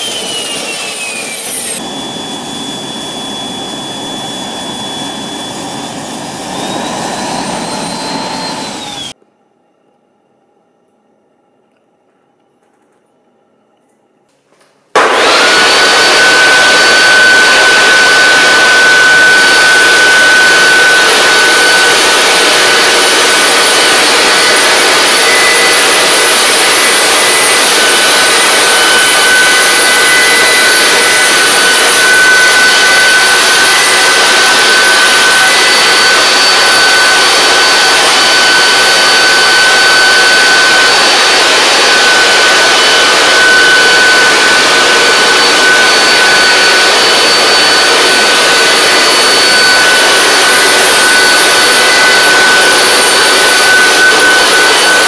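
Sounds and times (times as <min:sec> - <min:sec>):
gas turbine jet roar and whine: 0:00.0 - 0:09.8, 0:14.9 - 0:55.0.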